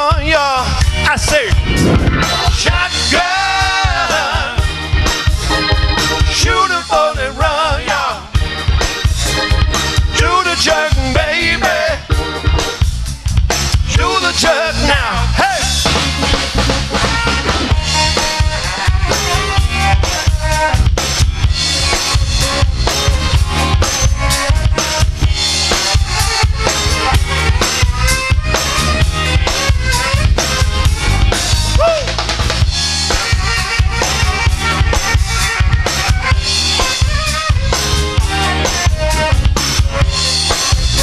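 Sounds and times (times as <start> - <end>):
drum kit beat with rimshots: 0.0 - 41.0
rhythm and blues band playing: 0.0 - 41.0.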